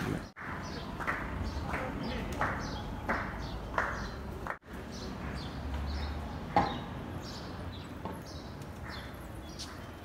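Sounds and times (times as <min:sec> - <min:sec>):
small birds chirping: 0:00.2 - 0:10.0.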